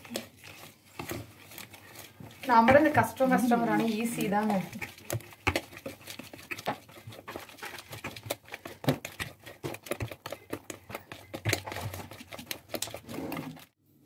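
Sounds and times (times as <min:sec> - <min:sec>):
batter stirred in plastic bowl: 0:00.0 - 0:13.8.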